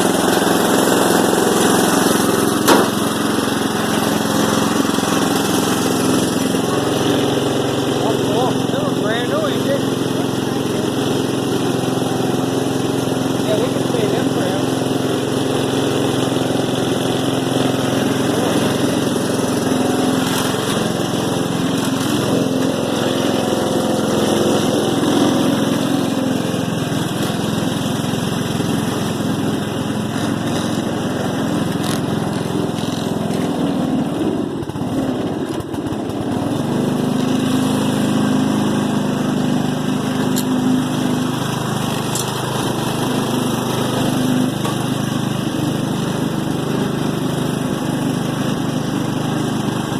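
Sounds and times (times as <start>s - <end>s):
riding lawn mower engine: 0.0s - 49.9s.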